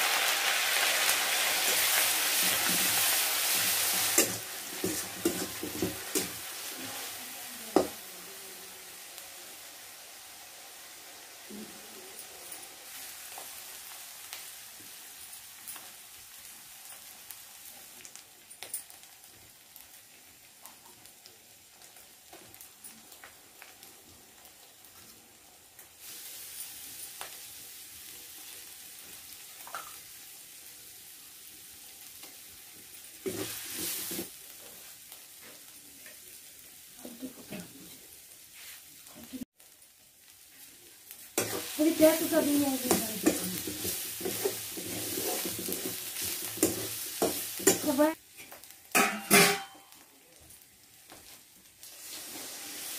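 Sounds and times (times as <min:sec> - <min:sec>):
onions sizzling in hot oil: 0:00.0 - 0:52.9.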